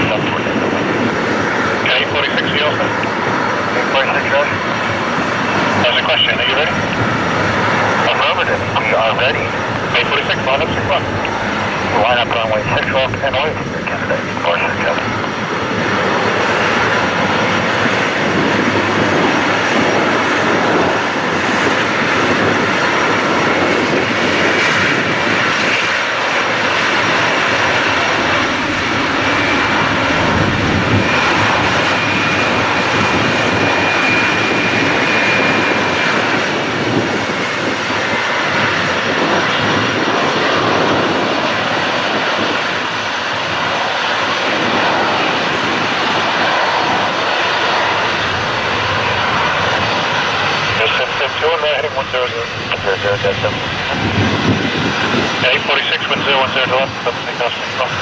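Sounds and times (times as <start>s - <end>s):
faint high engine whine: 0.0s - 58.0s
jet engines rushing: 0.0s - 58.0s.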